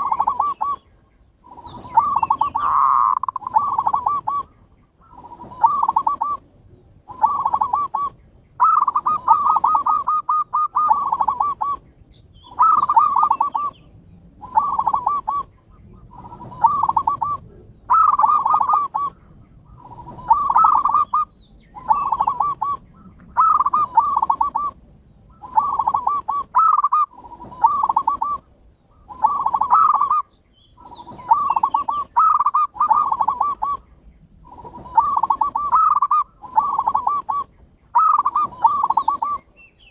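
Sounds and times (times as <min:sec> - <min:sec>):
zebra dove trilled cooing: 0:00.0 - 0:39.9.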